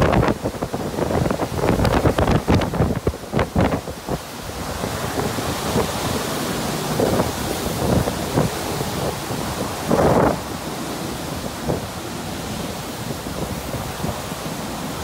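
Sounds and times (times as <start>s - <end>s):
heavy rain hissing: 0.0s - 15.0s
storm wind buffeting microphone: 0.0s - 15.0s.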